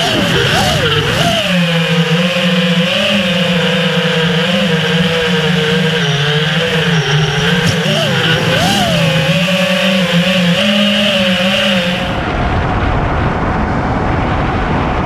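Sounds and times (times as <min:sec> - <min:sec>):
quadcopter motors buzzing: 0:00.0 - 0:12.2.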